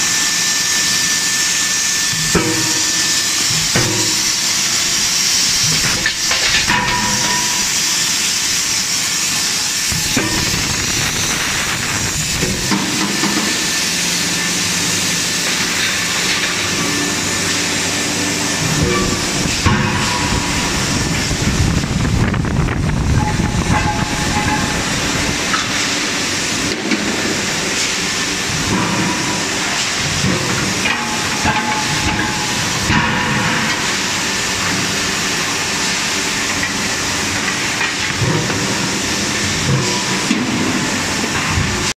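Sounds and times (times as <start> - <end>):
forging machinery hiss and rumble: 0.0 - 41.9.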